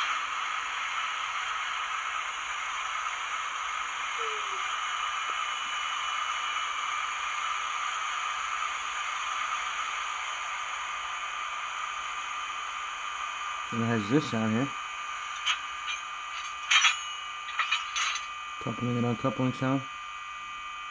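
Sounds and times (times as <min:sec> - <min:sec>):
hissing fan noise with whine: 0:00.0 - 0:20.9.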